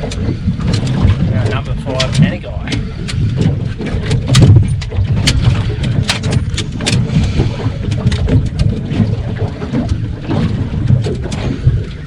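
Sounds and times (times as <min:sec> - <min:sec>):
knocks and clicks from boat gear: 0:00.0 - 0:12.0
water: 0:00.0 - 0:12.0
wind rumbling on microphone: 0:00.0 - 0:12.0.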